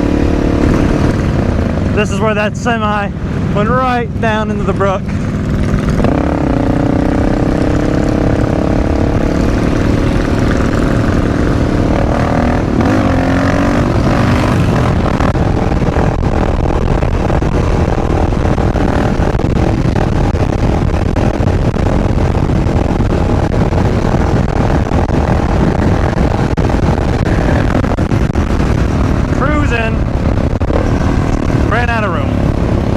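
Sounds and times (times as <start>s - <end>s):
motorcycle engine running: 0.0s - 32.9s
riding noise rush: 0.0s - 32.9s.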